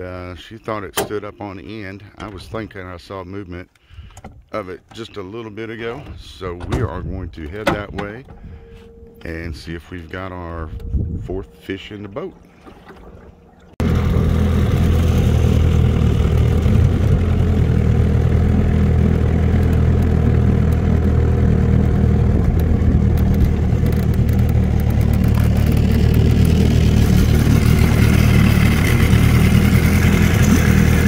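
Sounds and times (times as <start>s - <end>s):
outboard motor droning: 5.1s - 31.0s.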